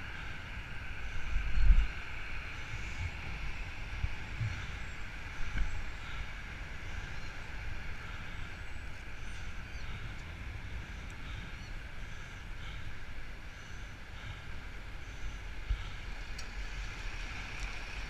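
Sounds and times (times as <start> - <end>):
road traffic noise: 0.0 - 18.0
wind rumbling on microphone: 0.0 - 18.0.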